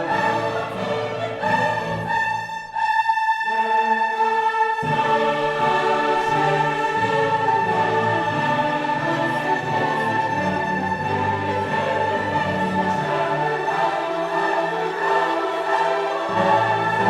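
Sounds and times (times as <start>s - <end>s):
orchestra and choir performing: 0.0s - 17.0s.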